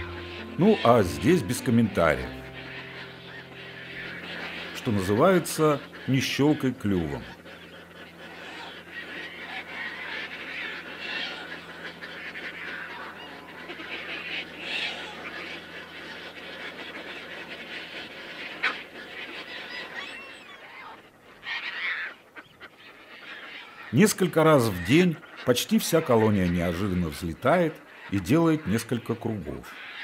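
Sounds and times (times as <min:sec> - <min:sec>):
tern colony harsh calls: 0:00.0 - 0:30.0.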